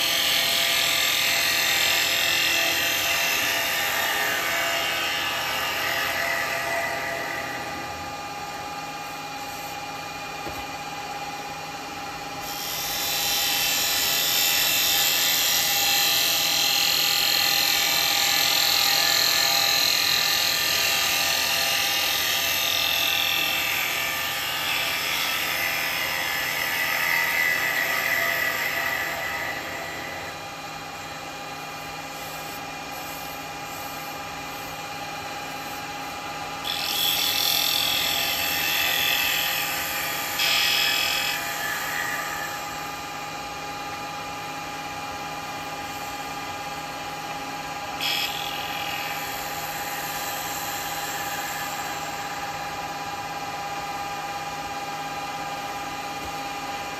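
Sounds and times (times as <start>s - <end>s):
lathe motor hum: 0.0s - 54.6s.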